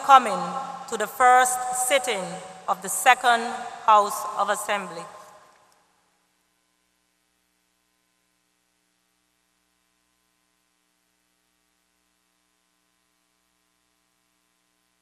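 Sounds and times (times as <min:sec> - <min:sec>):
faint hum with hiss: 0:00.0 - 0:15.0.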